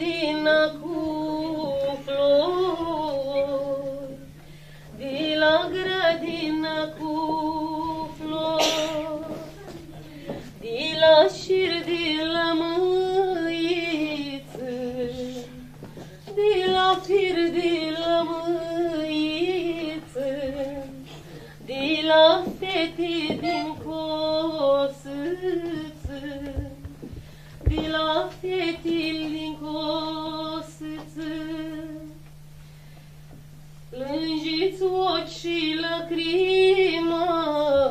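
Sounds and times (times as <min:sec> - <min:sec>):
woman singing: 0:00.0 - 0:09.8, 0:10.6 - 0:32.2, 0:33.9 - 0:37.9.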